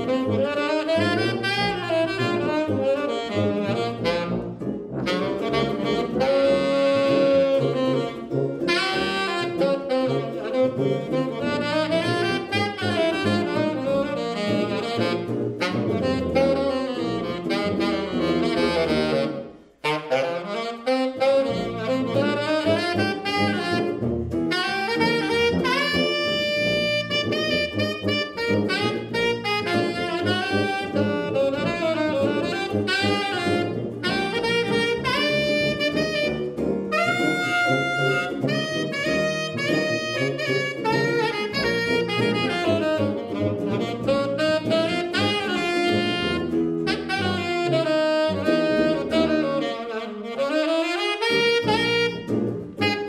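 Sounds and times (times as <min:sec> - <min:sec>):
saxophone playing lead: 0:00.0 - 0:53.0
tuba bass line: 0:00.0 - 0:53.0.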